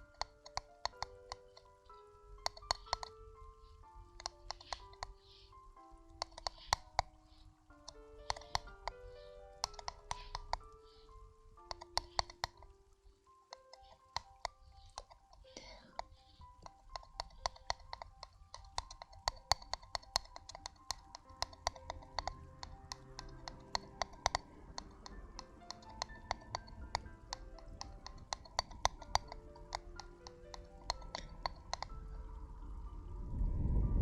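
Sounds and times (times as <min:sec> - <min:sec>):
crisp clicks and taps: 0:00.0 - 0:32.3
soft background music: 0:00.0 - 0:34.0.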